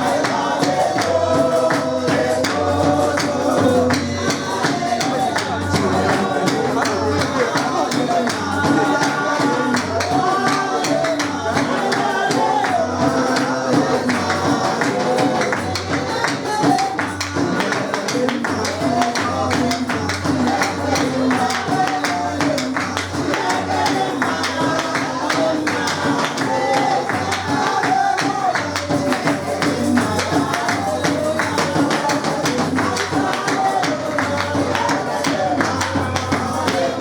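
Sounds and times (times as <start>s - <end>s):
singing over a band: 0.0s - 37.0s
steady percussion beat: 0.0s - 37.0s
tambourine-like jingles: 0.0s - 37.0s.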